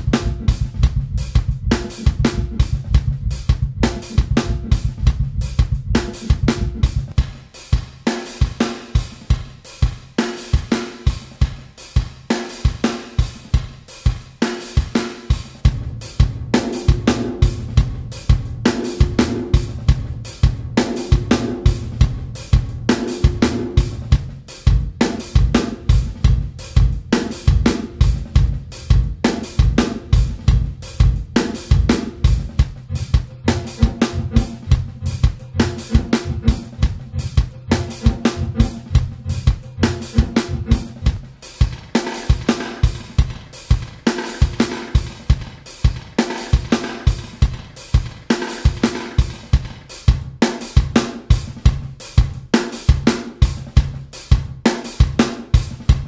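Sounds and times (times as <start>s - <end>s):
drum kit with reverb: 0.0s - 56.0s.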